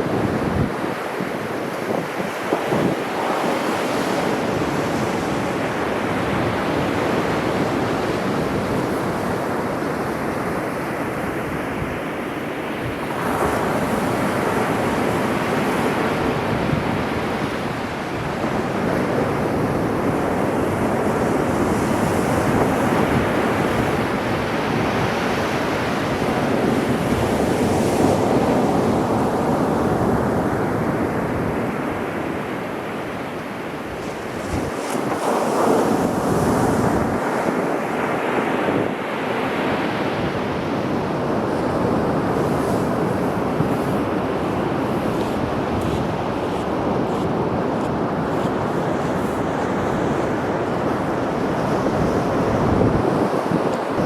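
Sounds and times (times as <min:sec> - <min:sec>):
sea waves breaking ashore: 0:00.0 - 0:54.0.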